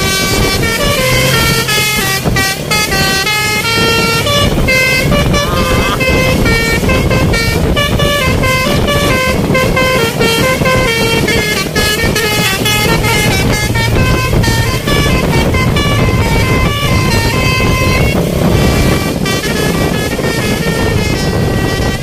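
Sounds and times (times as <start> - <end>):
bus horn playing stepped notes: 0.0 - 22.0
low rumble: 0.0 - 22.0.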